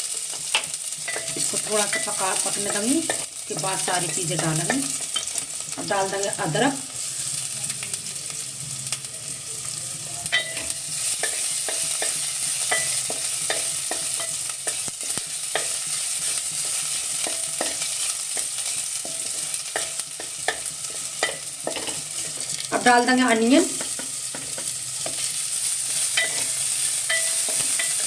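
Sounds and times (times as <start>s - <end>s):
garlic sizzling in oil: 0.0s - 28.0s
spoon scraping and knocking pan: 0.2s - 6.8s, 10.3s - 28.0s.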